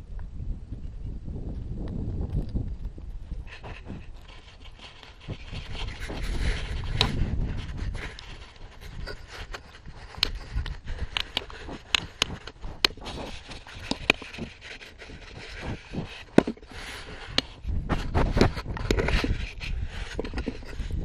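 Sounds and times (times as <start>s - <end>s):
goats rubbing against camera: 2.2s - 21.0s
sharp clicks and knocks: 3.6s - 20.8s.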